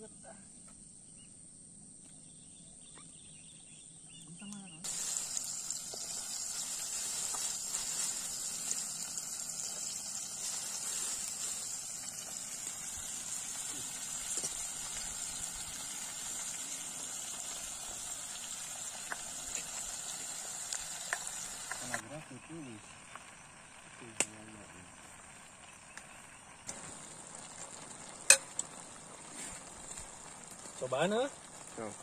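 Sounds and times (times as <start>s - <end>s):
camping stove hissing: 4.8s - 32.0s.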